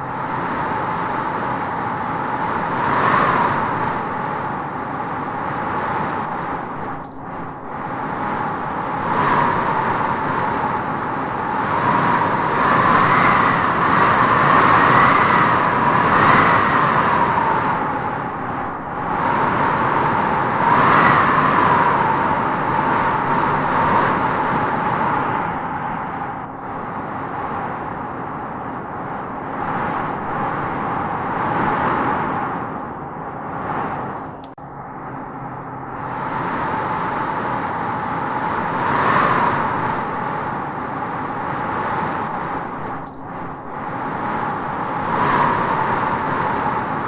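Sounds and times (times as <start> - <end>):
wind howling in gusts: 0.0 - 47.0.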